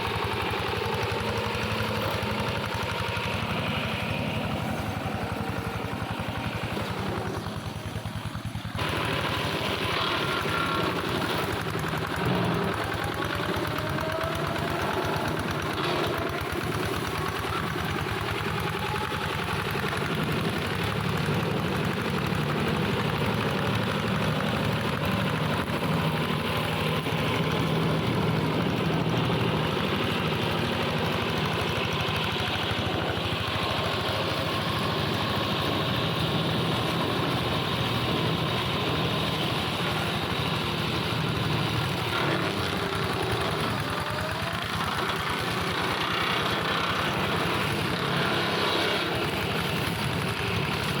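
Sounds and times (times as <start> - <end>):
mower engine running: 0.0 - 51.0.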